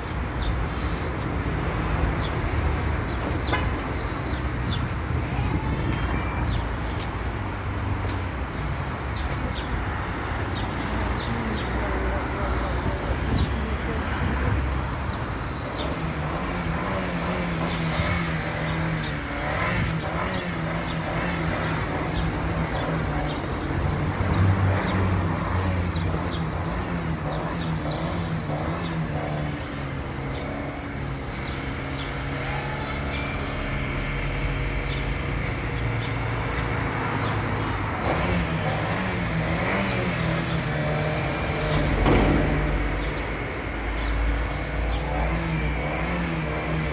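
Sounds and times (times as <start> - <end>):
drone motors buzzing: 0.0 - 46.9.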